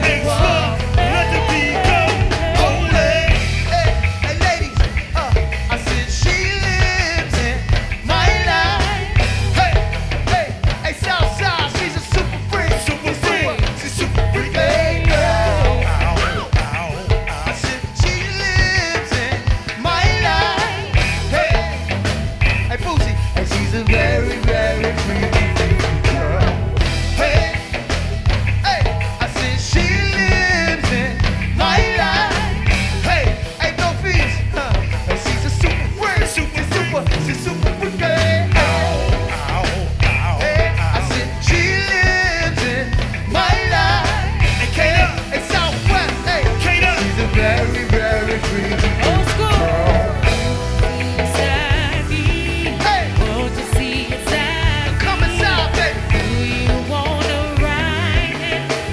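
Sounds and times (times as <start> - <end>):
live band music: 0.0 - 58.9.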